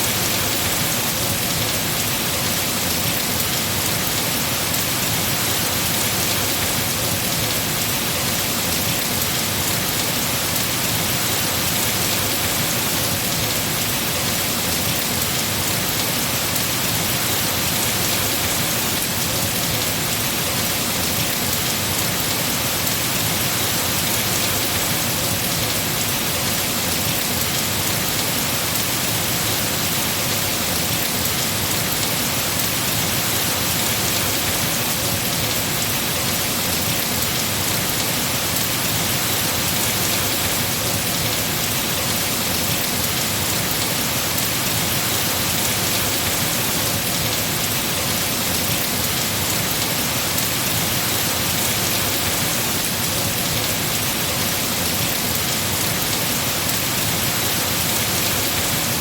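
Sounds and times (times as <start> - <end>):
heavy rain falling on trees: 0.0 - 59.0.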